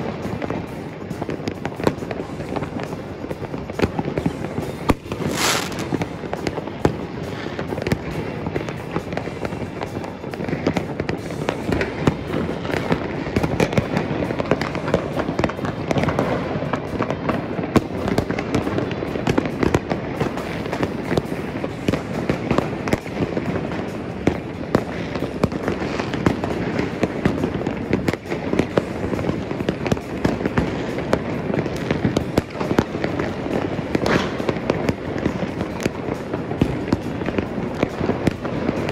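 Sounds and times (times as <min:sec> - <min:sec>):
fireworks and firecrackers crackling: 0:00.0 - 0:38.9.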